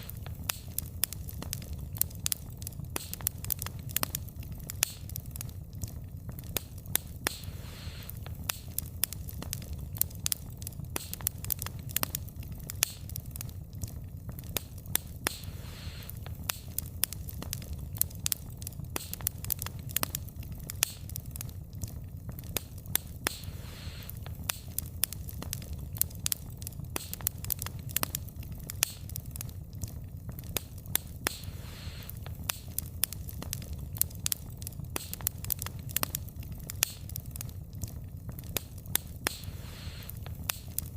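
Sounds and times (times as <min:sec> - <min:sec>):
burning logs popping and crackling: 0:00.0 - 0:40.9
low rumble of flames: 0:00.0 - 0:40.9.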